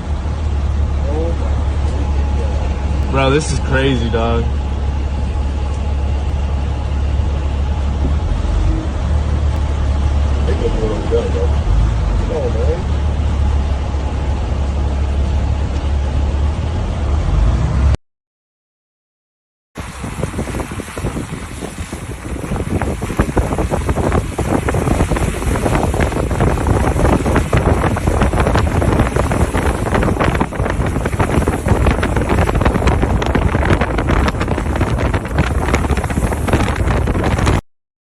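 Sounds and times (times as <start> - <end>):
wind buffeting microphone: 1.6 - 16.4, 19.8 - 37.6.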